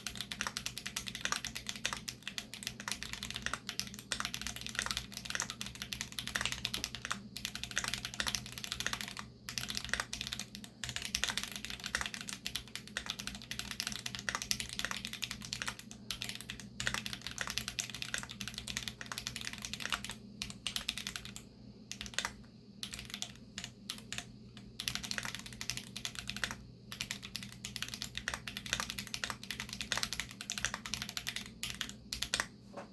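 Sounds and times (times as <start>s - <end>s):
fast mechanical keyboard typing: 0.0s - 32.6s.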